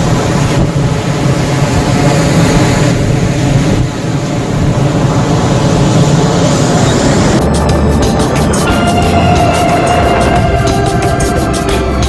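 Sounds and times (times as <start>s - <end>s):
boat engines droning: 0.0s - 12.0s
boat wake rushing: 0.0s - 12.0s
wind buffeting microphone: 0.0s - 12.0s.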